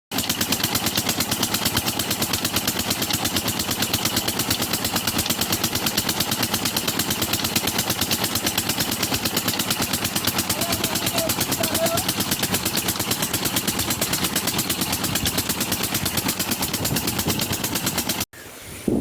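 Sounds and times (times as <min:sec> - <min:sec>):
diesel engine running: 0:00.1 - 0:18.3.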